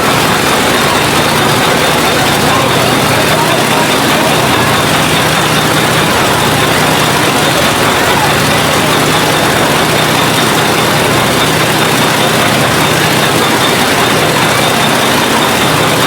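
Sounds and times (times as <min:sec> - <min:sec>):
dense mechanical din: 0:00.0 - 0:16.0
heavy engine running: 0:00.0 - 0:16.0.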